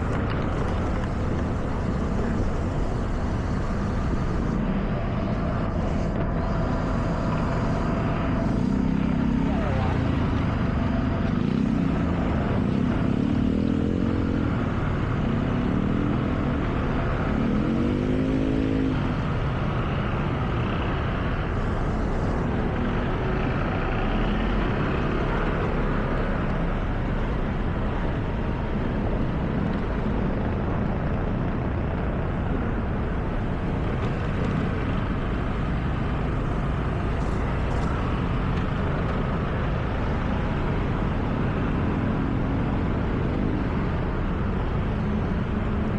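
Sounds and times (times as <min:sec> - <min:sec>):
tyres on wet road: 0:00.0 - 0:45.9.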